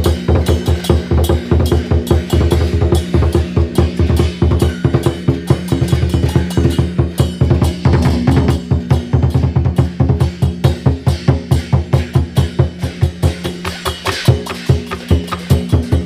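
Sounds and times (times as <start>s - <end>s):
fast steady drumming: 0.0s - 16.0s.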